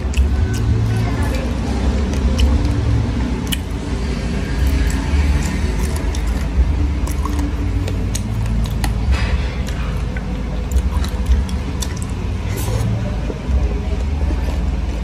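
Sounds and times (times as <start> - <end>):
fingers tearing food clicks: 0.0 - 13.0.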